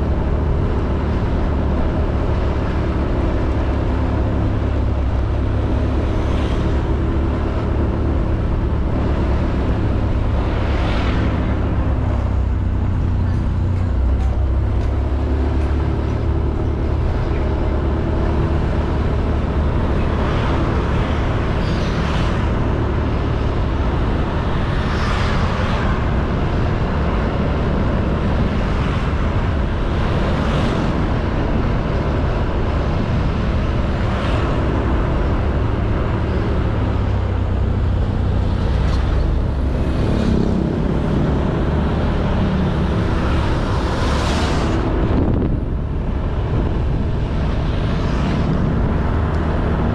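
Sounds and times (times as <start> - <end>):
road and wind noise: 0.0 - 49.9.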